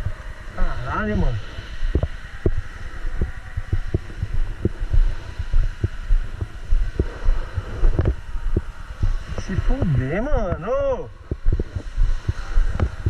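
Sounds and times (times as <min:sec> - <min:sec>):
steady low hum: 0:00.0 - 0:13.0
low thumps: 0:01.8 - 0:13.0.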